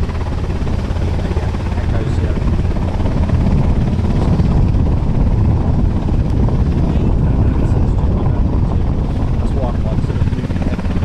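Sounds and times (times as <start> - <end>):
aircraft engine rumble: 0.0 - 11.0.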